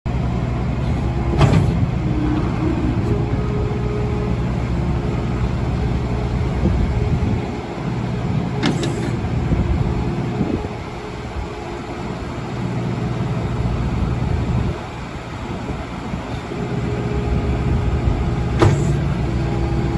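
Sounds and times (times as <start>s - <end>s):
diesel engine humming: 0.1s - 19.9s.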